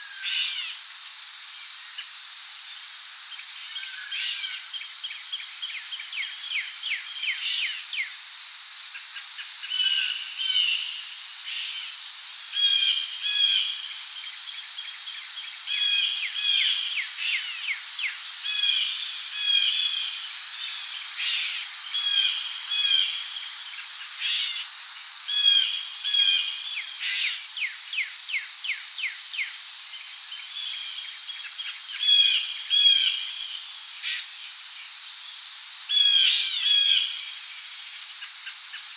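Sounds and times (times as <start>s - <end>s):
crickets droning: 0.0s - 38.9s.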